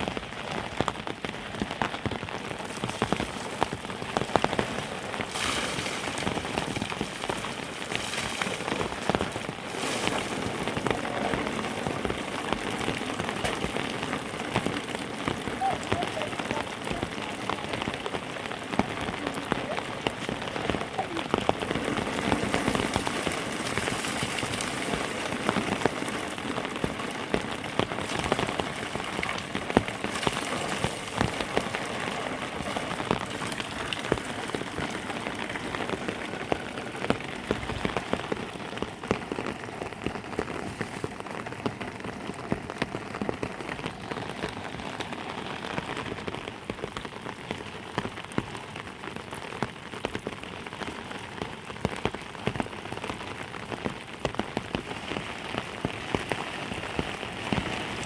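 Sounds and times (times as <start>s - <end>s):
heavy rain falling: 0.0s - 58.0s
raindrops hitting a surface: 0.0s - 58.0s.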